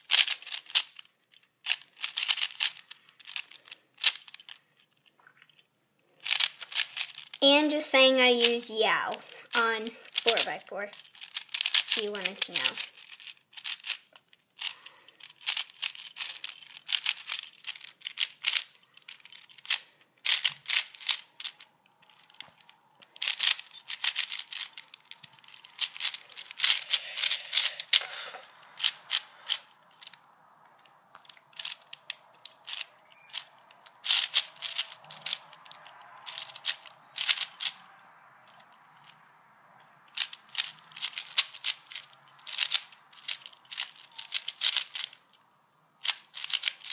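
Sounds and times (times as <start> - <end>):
puzzle cube plastic clicking: 0.0 - 7.8, 8.4 - 37.8, 40.1 - 45.2, 46.0 - 46.9.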